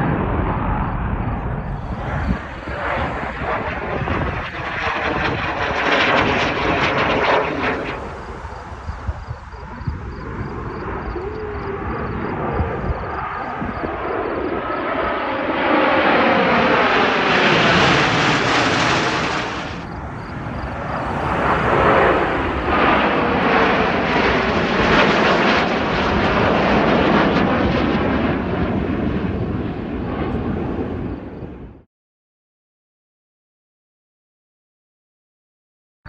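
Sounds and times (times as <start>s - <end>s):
aircraft engine passing by: 0.0s - 31.8s.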